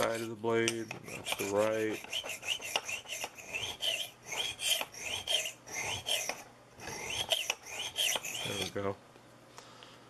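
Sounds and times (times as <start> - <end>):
knife scraping on sharpening stone: 0.0 - 8.8.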